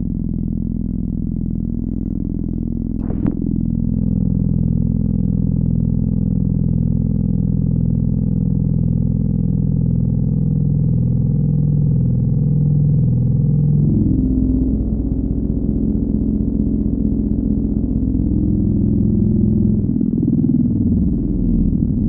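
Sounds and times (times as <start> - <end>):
synthesizer low droning note: 0.0 - 22.0.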